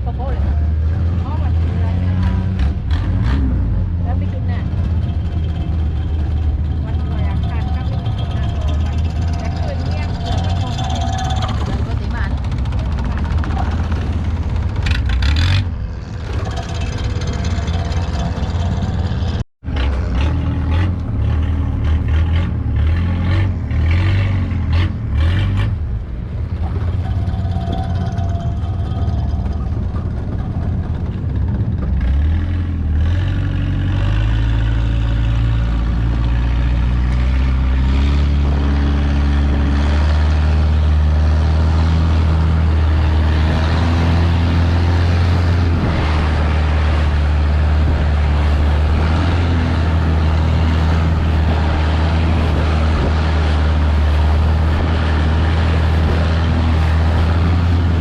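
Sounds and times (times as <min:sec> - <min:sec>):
boat engine revving: 0:00.0 - 0:58.0.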